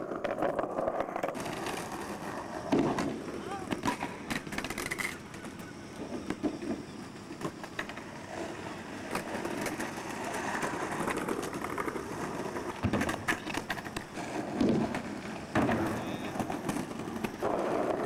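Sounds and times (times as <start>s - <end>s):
skateboard clattering on ground: 0.0s - 6.8s, 7.4s - 18.0s
skateboard wheels rolling on concrete: 0.0s - 18.0s.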